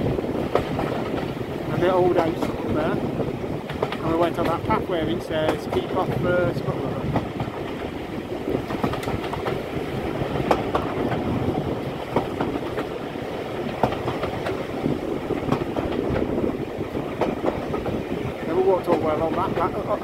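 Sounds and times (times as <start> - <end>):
carriage wheels rumbling on track: 0.0 - 20.0
wheels clicking over rail joints: 0.0 - 20.0.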